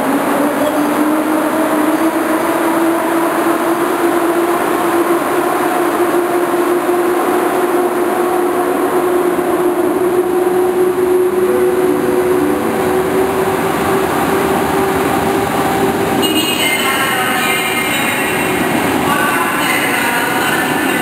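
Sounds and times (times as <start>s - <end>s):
electric locomotive motors whining: 0.0s - 21.0s
train coaches rolling: 0.0s - 21.0s.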